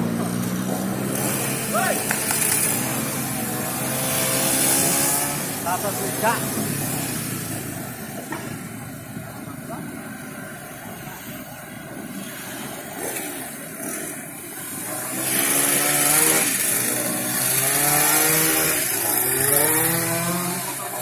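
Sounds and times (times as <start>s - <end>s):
van engine revving uphill: 0.0s - 21.0s.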